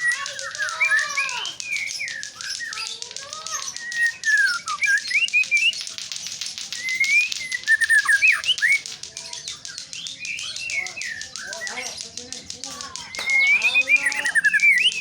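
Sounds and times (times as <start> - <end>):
bird singing whistled notes: 0.0 - 15.0
fast ticking: 0.0 - 15.0.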